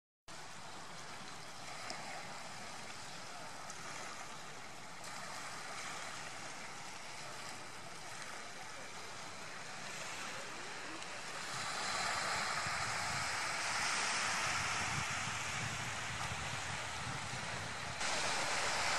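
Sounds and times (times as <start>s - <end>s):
small waves on sandy shore: 0.3s - 18.9s.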